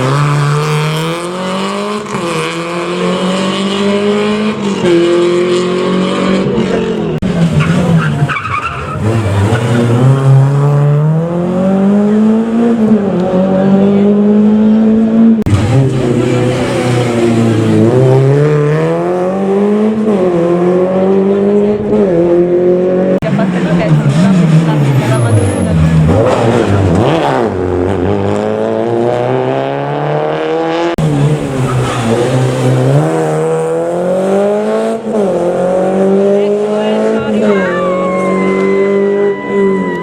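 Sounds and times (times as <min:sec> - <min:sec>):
rally car engine revving: 0:00.0 - 0:40.0.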